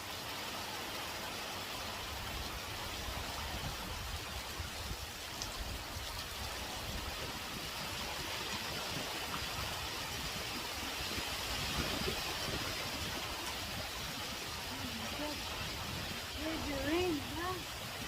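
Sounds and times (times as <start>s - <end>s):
heavy rain pouring: 0.0s - 18.0s
wind rumbling on microphone: 2.0s - 18.0s.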